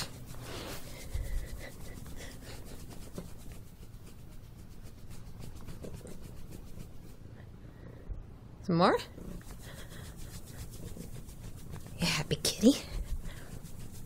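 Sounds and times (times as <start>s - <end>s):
hand rubbing cat fur: 0.0s - 7.3s, 9.1s - 14.0s.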